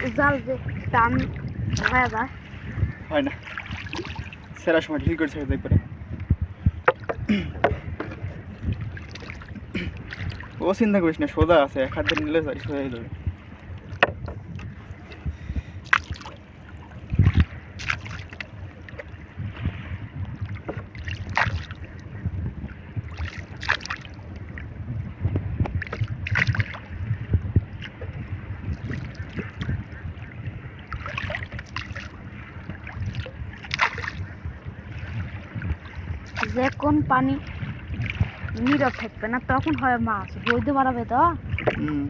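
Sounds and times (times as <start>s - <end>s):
steady low rumble: 0.0s - 42.0s
water splashing around boat: 0.0s - 42.0s.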